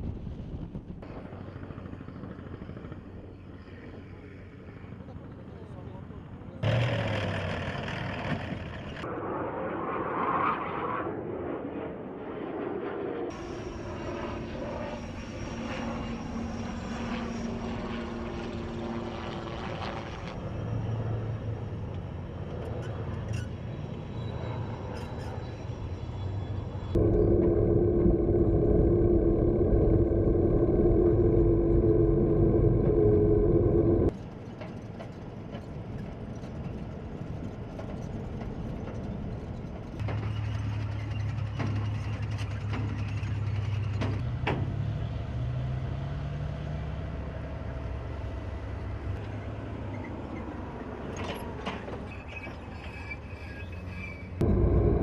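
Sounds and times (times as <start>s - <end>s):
armored vehicle engine drone: 1.0s - 12.2s, 13.0s - 55.0s.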